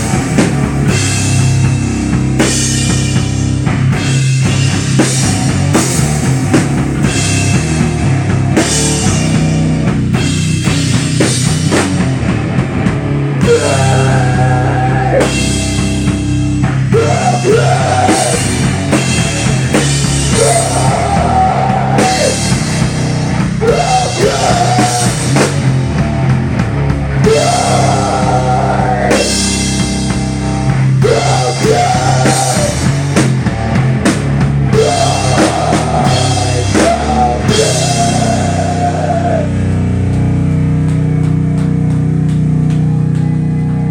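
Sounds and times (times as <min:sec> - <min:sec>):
bass guitar: 0:00.0 - 0:43.9
drum kit: 0:00.0 - 0:43.9
electric guitar: 0:00.0 - 0:43.9.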